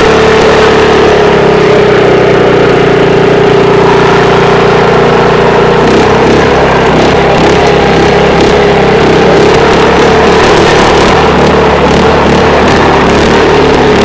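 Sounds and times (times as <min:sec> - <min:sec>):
petrol engine driving water pump: 0:00.0 - 0:14.0.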